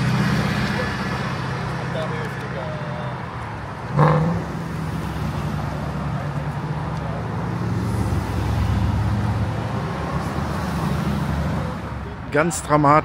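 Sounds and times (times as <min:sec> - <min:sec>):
car engines running low speed: 0:00.0 - 0:12.2.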